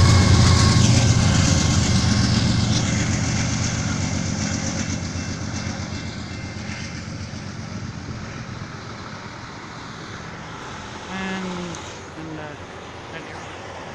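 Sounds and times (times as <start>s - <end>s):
freight train rumbling: 0.0s - 13.9s.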